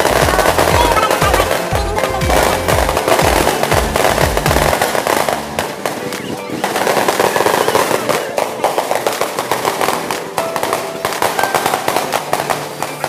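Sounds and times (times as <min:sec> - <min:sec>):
loud music with deep bass: 0:00.0 - 0:12.6
fireworks crackling and banging: 0:00.0 - 0:13.0.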